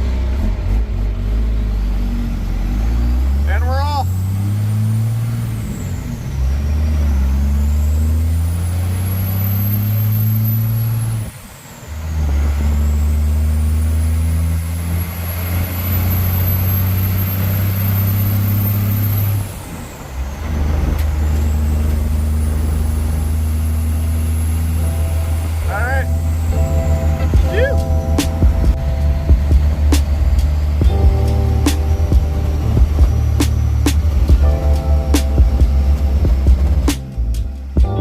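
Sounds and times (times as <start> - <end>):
vehicle engine accelerating: 0.0 - 38.0.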